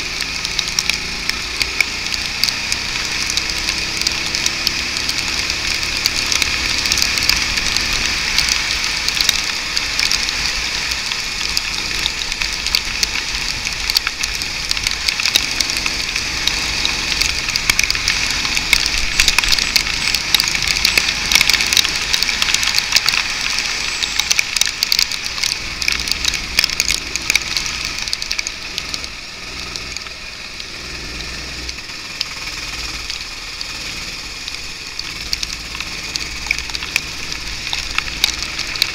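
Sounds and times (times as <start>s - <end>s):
faint kart engine: 0.0s - 38.9s
rapid crackling clicks: 0.0s - 38.9s.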